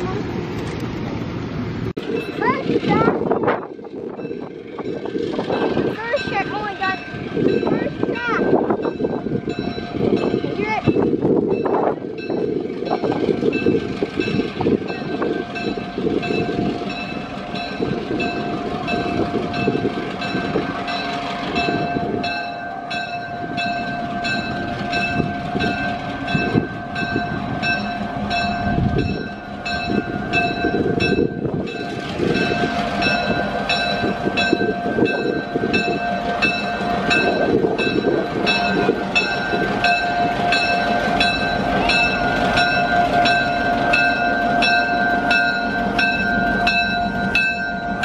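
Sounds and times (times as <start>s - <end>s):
diesel locomotive rumbling: 0.0s - 48.0s
locomotive bell dinging: 2.0s - 48.0s.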